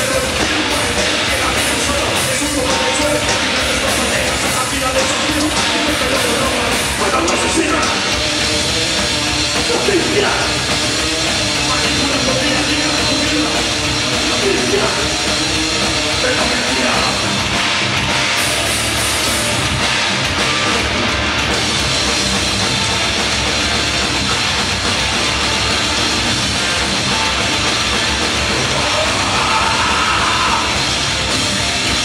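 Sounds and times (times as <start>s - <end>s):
live heavy metal band: 0.0s - 32.0s.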